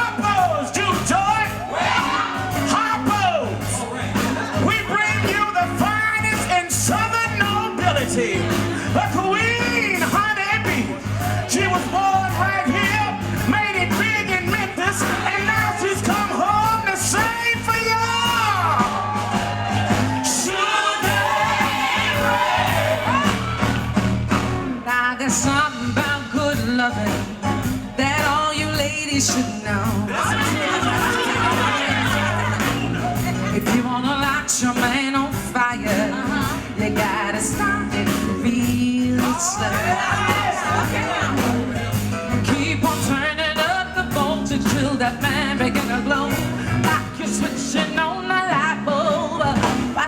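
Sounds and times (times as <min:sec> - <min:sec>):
person singing: 0:00.0 - 0:19.1, 0:24.7 - 0:50.0
live band music: 0:00.0 - 0:50.0
steady bass line: 0:00.0 - 0:50.0.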